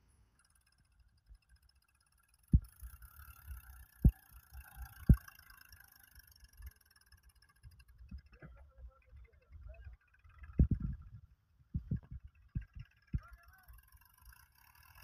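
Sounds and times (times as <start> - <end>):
tractor engine rumble: 0.0 - 15.0.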